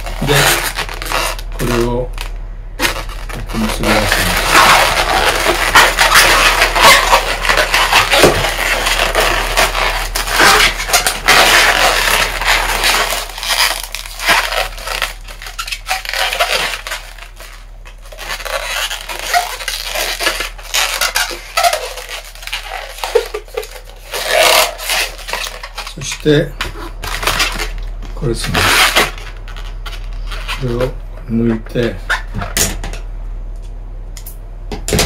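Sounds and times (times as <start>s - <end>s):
balloons squeaking and rubbing: 0.0s - 32.6s.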